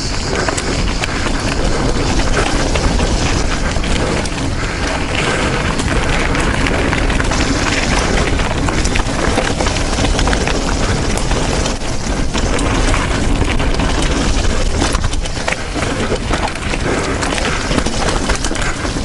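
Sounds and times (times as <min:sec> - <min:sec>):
bike rattling and knocking: 0:00.0 - 0:19.0
bike tyre noise on dirt: 0:00.0 - 0:19.0
wind rush: 0:00.0 - 0:19.0.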